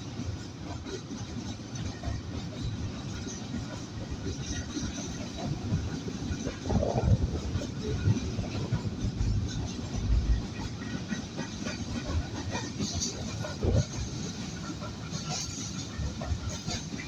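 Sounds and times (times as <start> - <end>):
goods train wagons clattering: 0.0 - 17.0.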